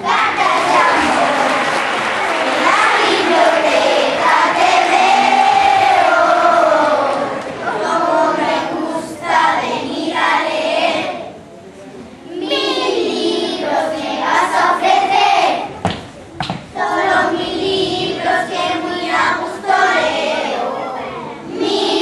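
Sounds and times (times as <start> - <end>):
children singing in chorus: 0.0 - 11.3, 12.3 - 15.7, 16.7 - 22.0.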